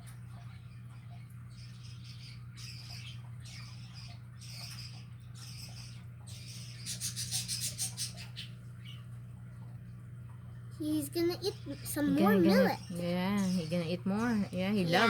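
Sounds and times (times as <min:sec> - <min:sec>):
steady low hum: 0:00.0 - 0:15.0
small bird chirping: 0:00.3 - 0:09.2, 0:10.8 - 0:15.0.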